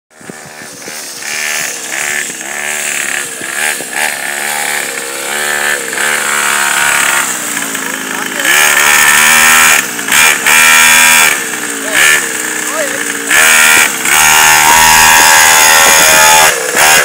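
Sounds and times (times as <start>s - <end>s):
small engine revving: 0.1s - 17.0s.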